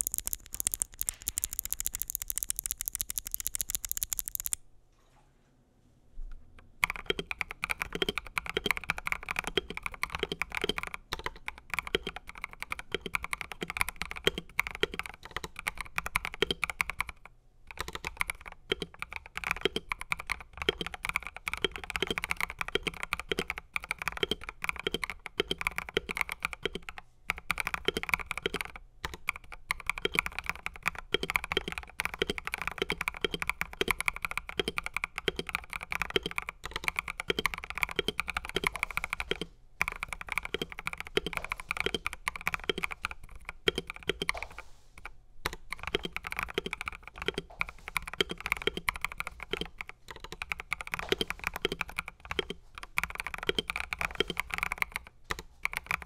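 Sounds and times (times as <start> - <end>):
rapid mechanical keyboard typing: 0.0 - 4.6, 6.8 - 56.0.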